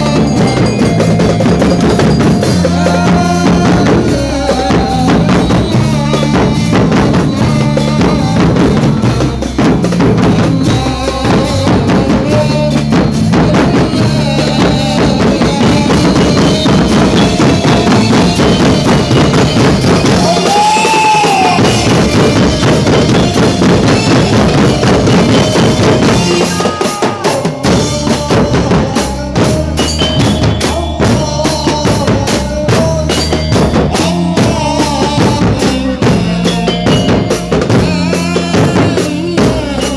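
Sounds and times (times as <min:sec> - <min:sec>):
drum beat: 0:00.0 - 0:39.9
repeating bass line: 0:00.0 - 0:39.9.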